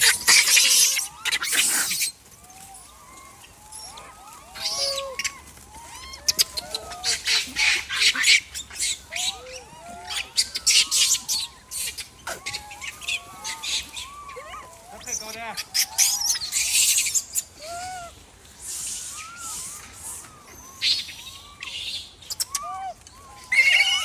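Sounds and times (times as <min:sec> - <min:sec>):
macaques squeaking and cooing: 0:00.0 - 0:24.0.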